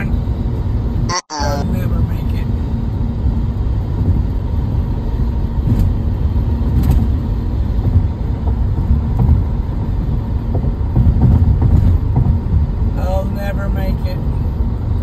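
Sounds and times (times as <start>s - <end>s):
tyre and road noise rumble: 0.0s - 15.0s.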